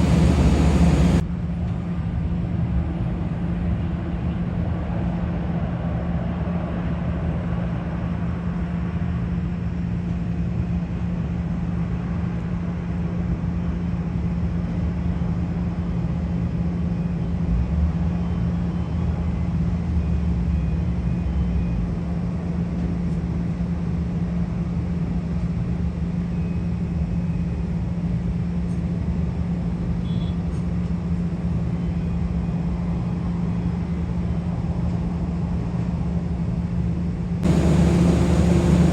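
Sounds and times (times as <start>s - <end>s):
jet aircraft engine: 0.0s - 38.9s.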